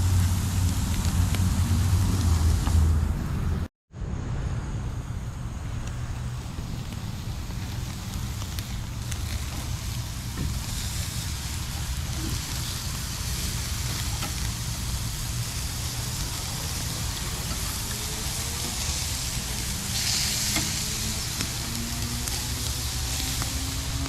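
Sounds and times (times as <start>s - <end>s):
burgers sizzling on a grill: 0.0s - 2.9s, 5.6s - 24.0s
low rumble: 0.0s - 24.0s.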